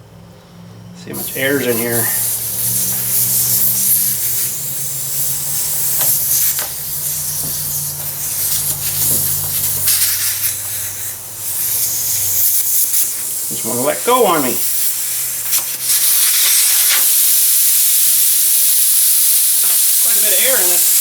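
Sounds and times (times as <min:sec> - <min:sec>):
air hissing from tire valve: 0:01.0 - 0:21.0.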